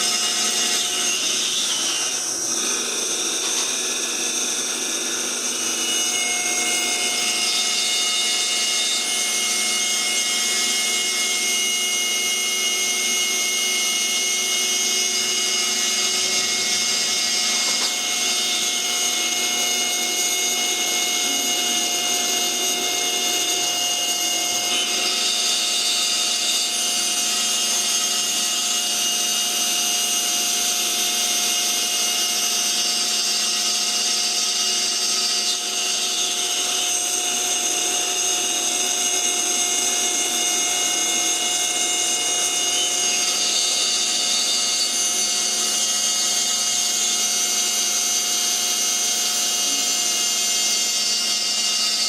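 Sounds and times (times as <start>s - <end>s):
cutter machining wood: 0.0s - 52.0s
spindle high whine: 0.0s - 52.0s.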